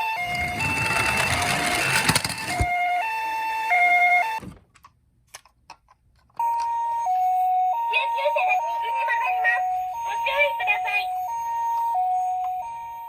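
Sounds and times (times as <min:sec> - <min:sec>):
toy ambulance siren: 0:00.0 - 0:04.4, 0:06.4 - 0:13.0.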